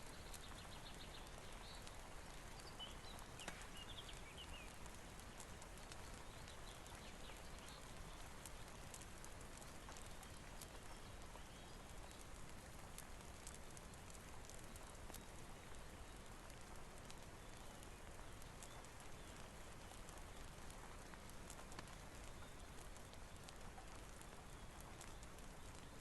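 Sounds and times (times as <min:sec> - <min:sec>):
faint rain hiss: 0:00.0 - 0:26.0
wood fire crackles: 0:00.0 - 0:26.0.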